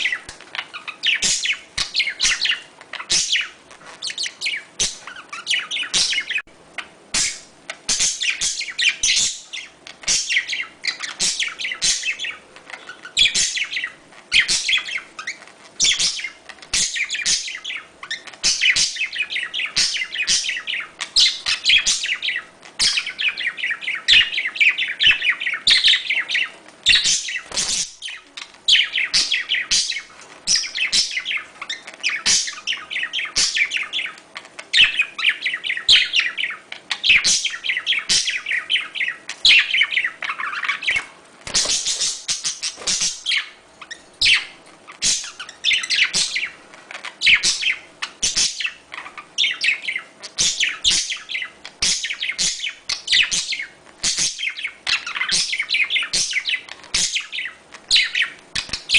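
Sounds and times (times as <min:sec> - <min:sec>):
budgies chirping and warbling: 0:00.0 - 0:58.9.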